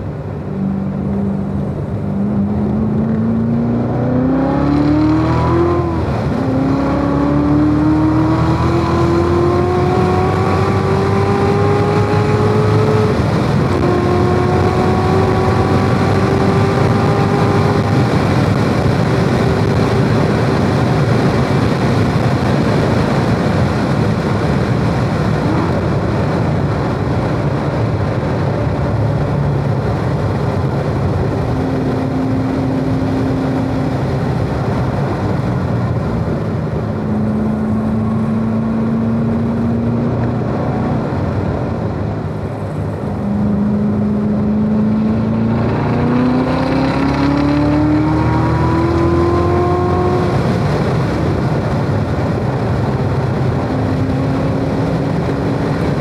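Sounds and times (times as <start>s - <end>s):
car engine at full throttle: 0.0s - 56.0s
wind and tyre noise: 0.0s - 56.0s.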